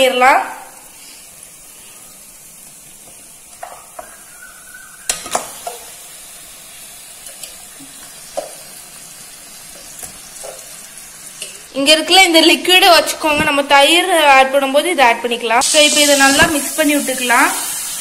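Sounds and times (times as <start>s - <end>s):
masala sizzling in a pan: 0.0s - 14.9s, 15.6s - 18.0s.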